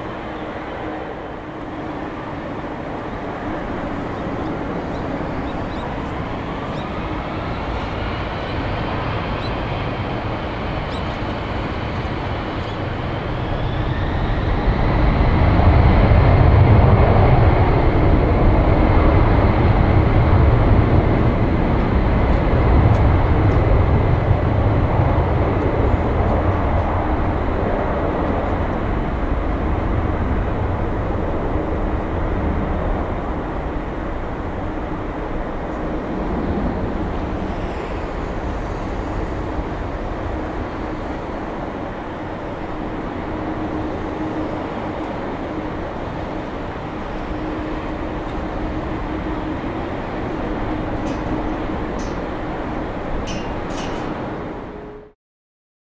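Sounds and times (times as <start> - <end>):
deep jet engine rumble: 0.0 - 55.2
jet engines whining: 0.0 - 55.2.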